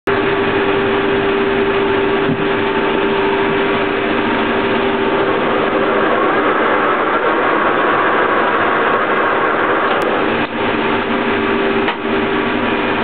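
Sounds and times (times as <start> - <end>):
lathe humming: 0.2 - 13.0.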